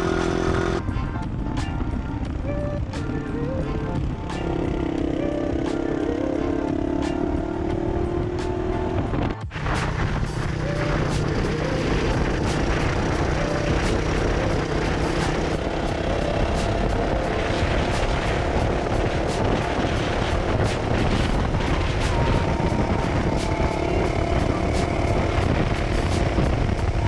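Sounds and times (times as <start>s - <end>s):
motorcycle engine running: 0.0s - 0.8s, 2.2s - 27.0s.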